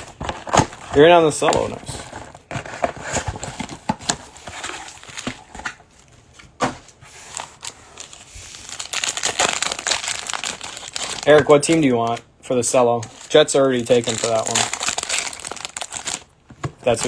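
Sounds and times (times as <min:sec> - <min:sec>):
pack wrappers crinkling: 0:00.0 - 0:05.6, 0:07.2 - 0:17.0
cards being handled: 0:00.0 - 0:05.7, 0:06.6 - 0:17.0.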